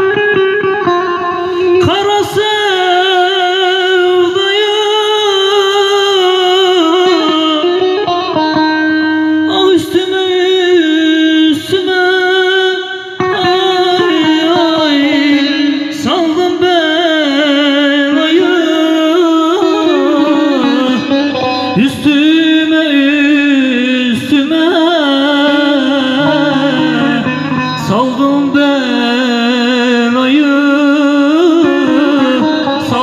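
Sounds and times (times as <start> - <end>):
folk music through pa: 0.0 - 33.0
plucked string instrument: 0.0 - 33.0.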